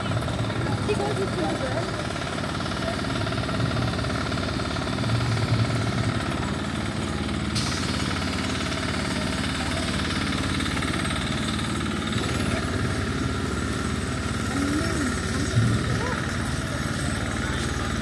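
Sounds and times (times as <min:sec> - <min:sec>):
jackhammer rattling: 0:00.0 - 0:18.0.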